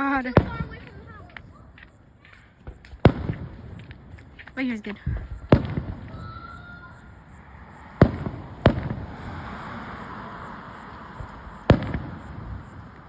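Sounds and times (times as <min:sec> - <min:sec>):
fireworks booming: 0:00.0 - 0:13.0
fireworks crackling: 0:00.0 - 0:13.0
rolling echo: 0:00.0 - 0:13.0.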